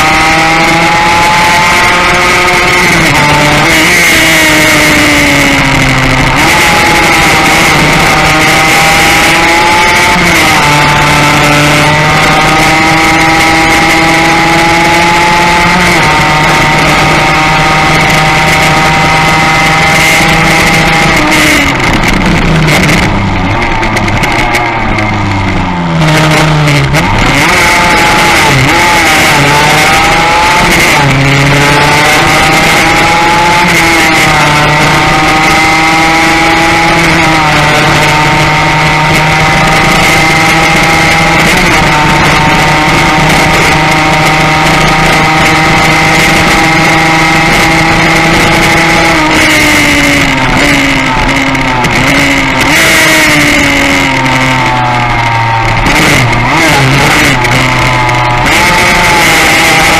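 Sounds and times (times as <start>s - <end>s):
motorcycle engine at full throttle: 0.0s - 59.9s
wind rush on microphone: 0.0s - 59.9s.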